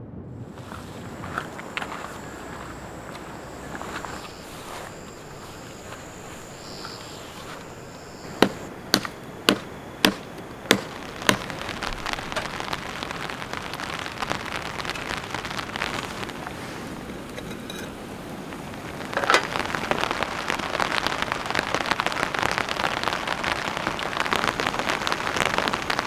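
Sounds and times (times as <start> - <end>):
rain pattering: 0.4 - 26.0
steady hiss: 0.4 - 26.0.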